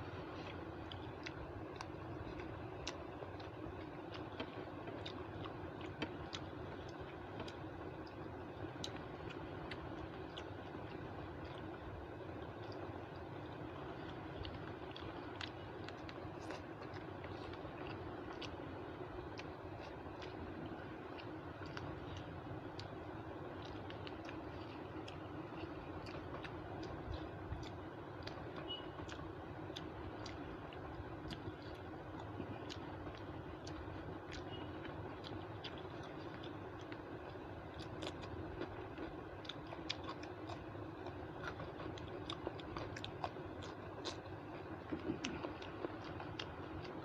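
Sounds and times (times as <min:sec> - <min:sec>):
person chewing with mouth clicks: 0:00.0 - 0:47.0
steady low hum: 0:00.0 - 0:47.0.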